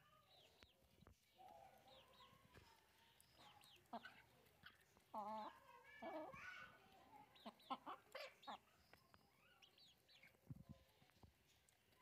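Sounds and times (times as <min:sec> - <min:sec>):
chickens clucking: 0:01.4 - 0:11.3.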